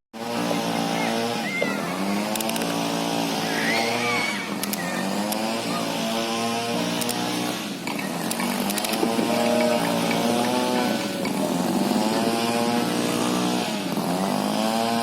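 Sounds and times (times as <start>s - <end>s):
diesel engine under load: 0.2s - 15.0s.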